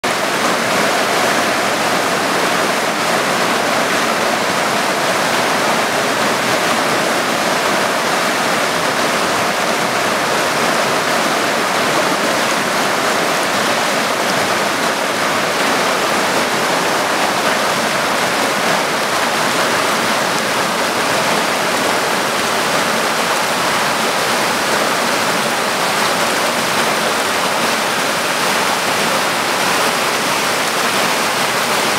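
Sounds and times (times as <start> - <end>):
river rushing over rapids: 0.0 - 31.9.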